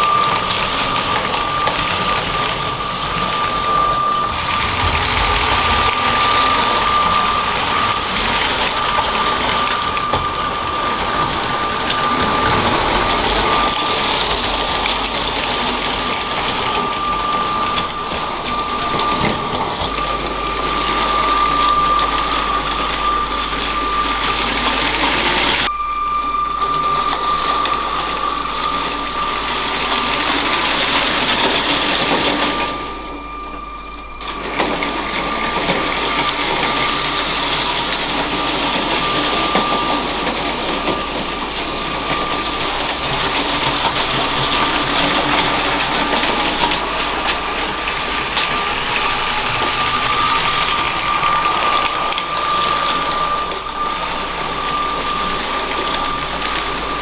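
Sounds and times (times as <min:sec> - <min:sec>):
wheels rattling on plastic track: 0:00.0 - 0:25.7, 0:26.4 - 0:57.0
toy train motor whine: 0:00.0 - 0:57.0.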